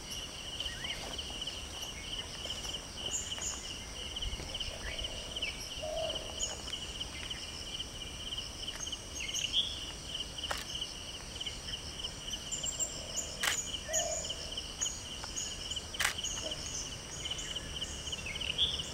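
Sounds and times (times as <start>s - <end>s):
insects chirring: 0.0s - 18.9s.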